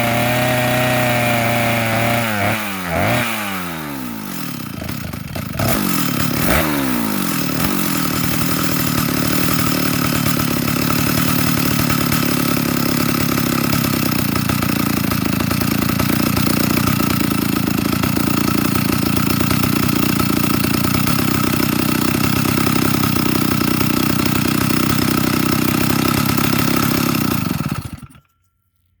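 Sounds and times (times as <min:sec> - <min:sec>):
chainsaw revving and running: 0:00.0 - 0:28.3.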